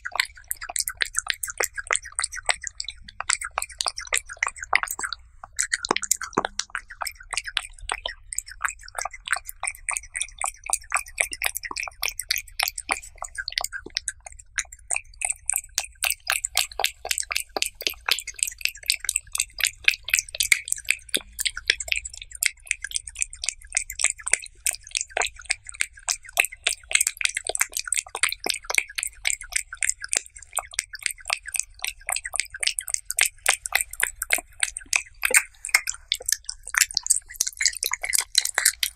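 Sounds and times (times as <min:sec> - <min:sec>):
cat chewing meat: 0:00.0 - 0:38.9.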